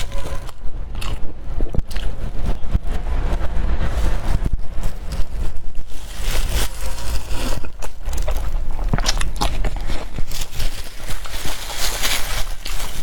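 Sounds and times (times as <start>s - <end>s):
chewing with crunches: 0.0s - 3.0s, 4.2s - 13.0s
low rumble: 0.0s - 13.0s.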